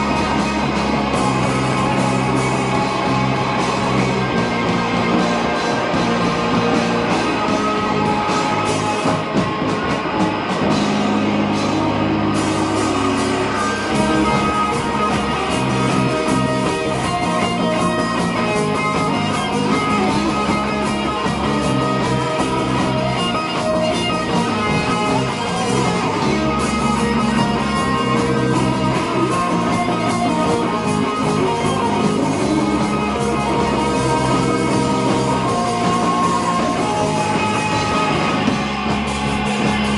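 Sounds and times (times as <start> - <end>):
distorted electric guitars: 0.0 - 39.9
drum kit: 0.0 - 39.9
electric bass: 0.0 - 39.9.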